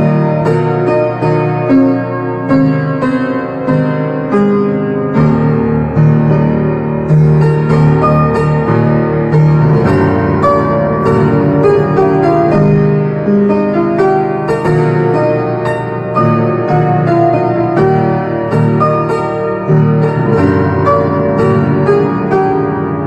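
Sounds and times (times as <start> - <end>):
instrumental piano music: 0.0 - 23.0.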